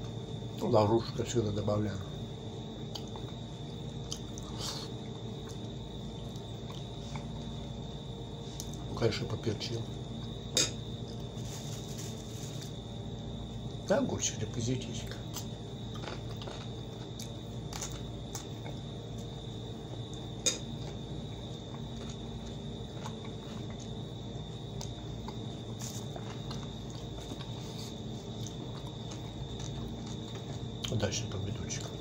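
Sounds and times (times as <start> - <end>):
crickets chirring: 0.0 - 32.0
chewing crunchy food: 2.7 - 9.0, 9.7 - 13.9, 14.8 - 32.0.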